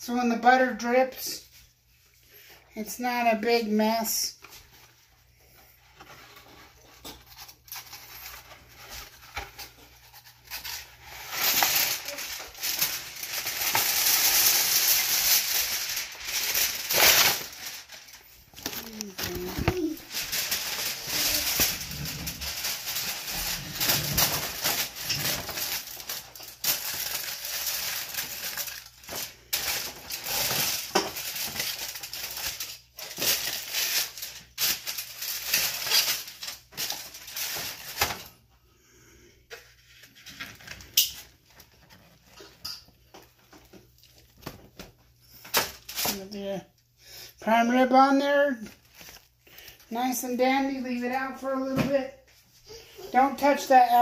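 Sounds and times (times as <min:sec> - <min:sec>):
aluminium foil crinkling: 0:02.3 - 0:38.4, 0:39.5 - 0:46.8, 0:47.9 - 0:51.6.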